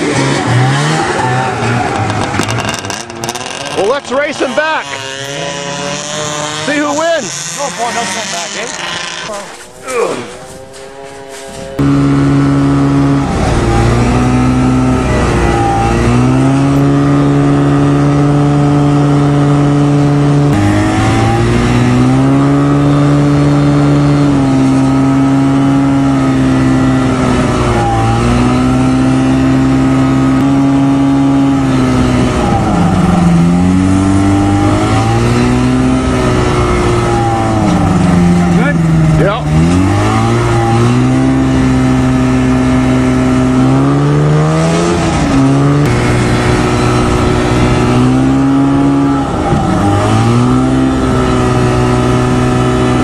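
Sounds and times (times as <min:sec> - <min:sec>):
small plane engine and propeller: 0:01.8 - 0:53.0.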